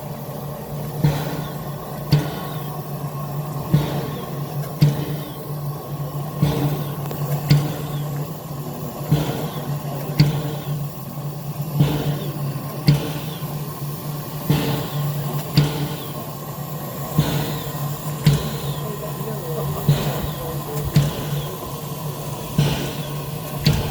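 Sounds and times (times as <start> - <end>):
train wheels clickety-clack: 0.0 - 23.9.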